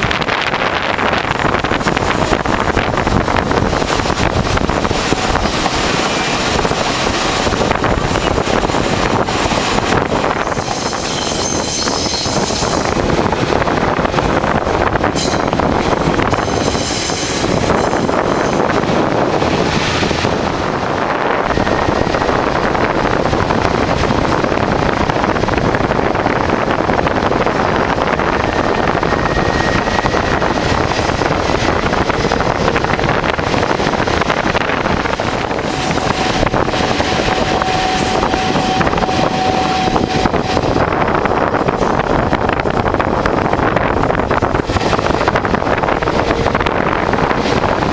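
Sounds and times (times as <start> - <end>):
train rumbling on track: 0.0 - 47.9.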